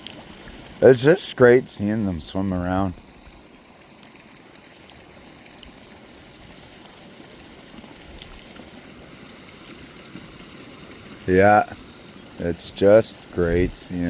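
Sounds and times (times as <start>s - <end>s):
running water splashing: 0.0s - 14.0s.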